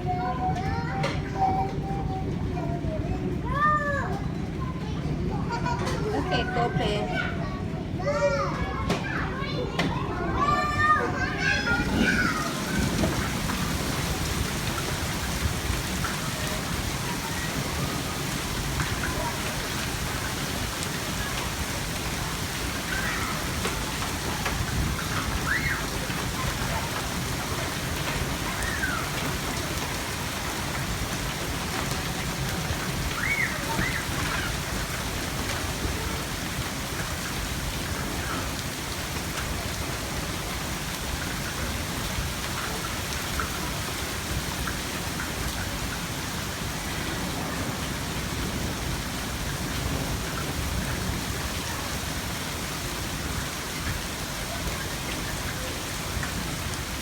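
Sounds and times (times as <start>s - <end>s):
heavy hail downpour: 0.0s - 57.0s.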